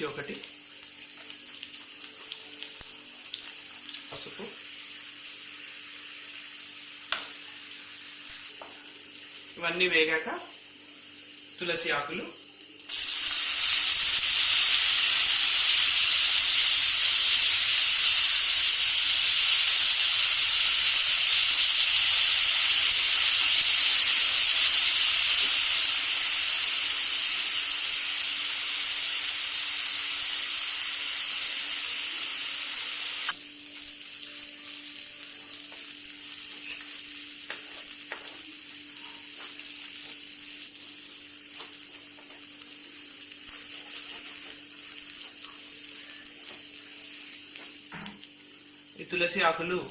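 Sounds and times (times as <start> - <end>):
leaves sizzling in hot oil: 0.0 - 49.8.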